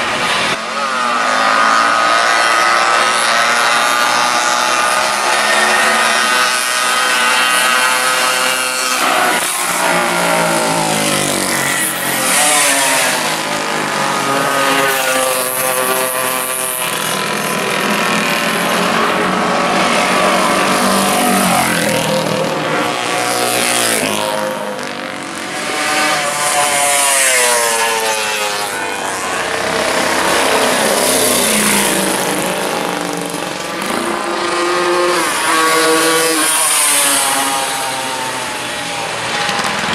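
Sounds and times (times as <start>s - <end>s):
motorcycle engine revving: 0.2s - 39.9s.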